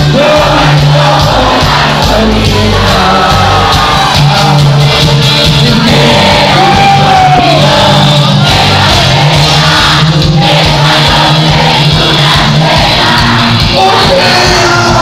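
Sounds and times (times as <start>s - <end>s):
crowd shouting: 0.0s - 15.0s
live band playing: 0.0s - 15.0s
person singing: 0.0s - 15.0s.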